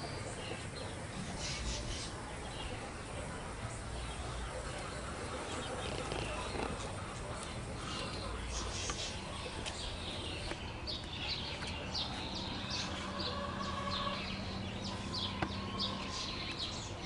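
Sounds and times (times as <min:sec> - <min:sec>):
flock of birds chirping: 0:00.0 - 0:17.0.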